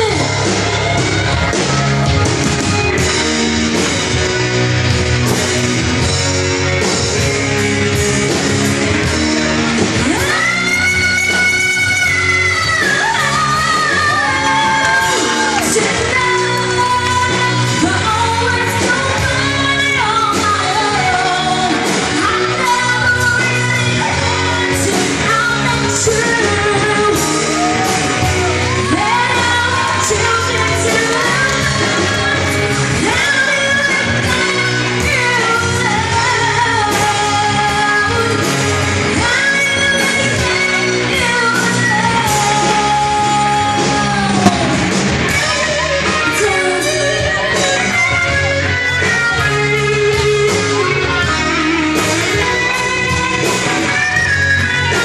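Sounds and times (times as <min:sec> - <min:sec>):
amplified band playing: 0:00.0 - 0:55.0
woman singing into microphone: 0:10.0 - 0:55.0.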